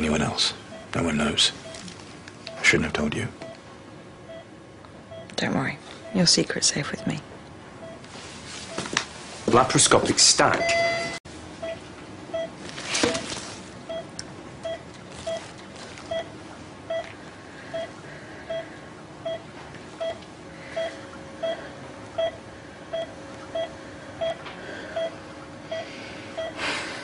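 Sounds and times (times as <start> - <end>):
patient monitor beeping: 0.0 - 8.1, 8.7 - 9.0, 10.5 - 26.8.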